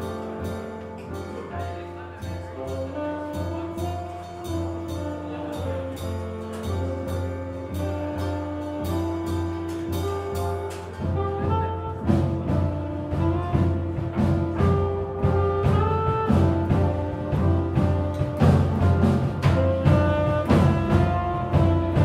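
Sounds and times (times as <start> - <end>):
cymbal beat: 0.0 - 22.0
jazz group playing: 0.0 - 22.0.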